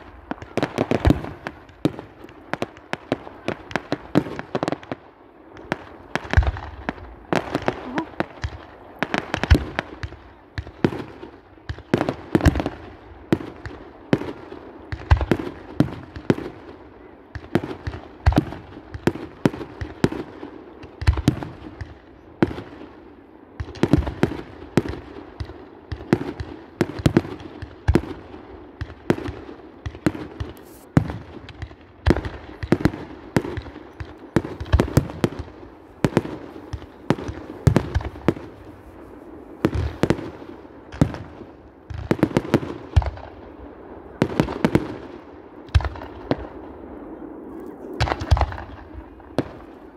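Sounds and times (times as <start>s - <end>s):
fireworks bangs and pops: 0.0s - 22.8s, 23.6s - 43.5s, 48.0s - 49.9s.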